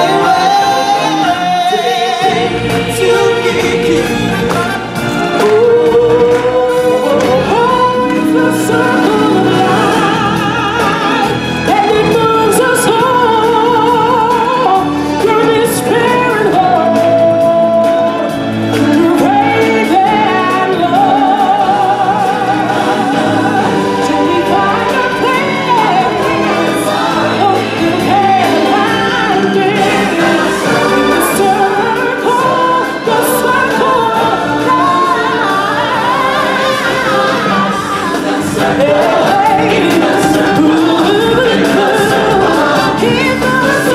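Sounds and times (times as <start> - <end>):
choir and voices singing: 0.0 - 43.9
full musical backing: 0.0 - 43.9.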